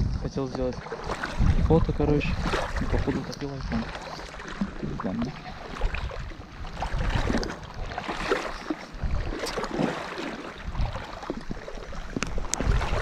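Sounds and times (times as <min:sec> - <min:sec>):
river water: 0:00.0 - 0:13.0
wind rumbling on microphone: 0:00.0 - 0:13.0.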